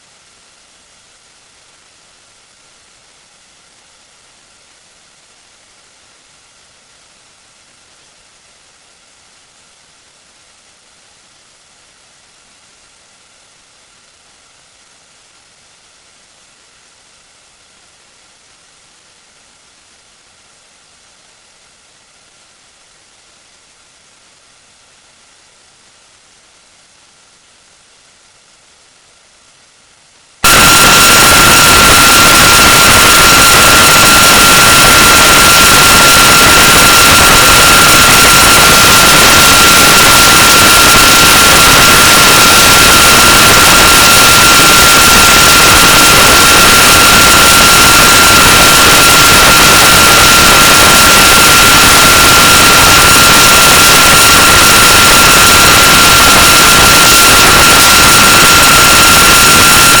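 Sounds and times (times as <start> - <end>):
steady hiss of noise: 0.0 - 60.0.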